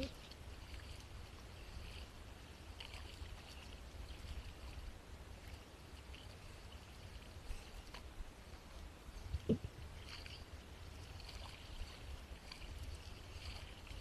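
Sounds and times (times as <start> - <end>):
paddle splashes: 0.0 - 14.0.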